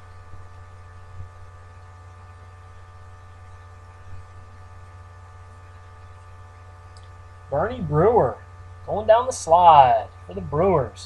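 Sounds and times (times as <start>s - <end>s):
electrical mains hum: 0.0s - 11.0s
faint high buzz: 0.0s - 11.0s.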